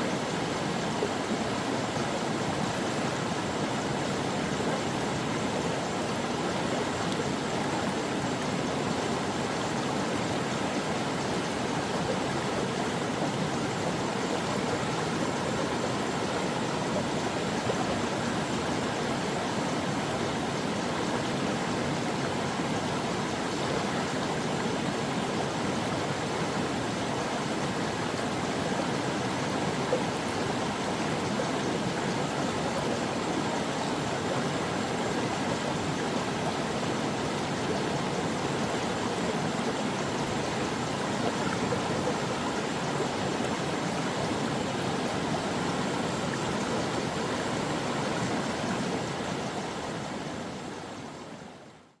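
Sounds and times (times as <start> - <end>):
brook water flowing: 0.0 - 52.0.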